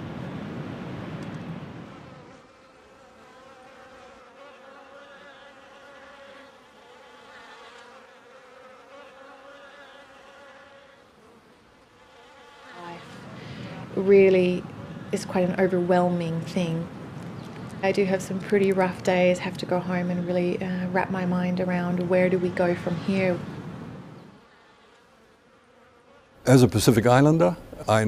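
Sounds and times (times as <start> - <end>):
faint buzzing drone: 0.0 - 28.0.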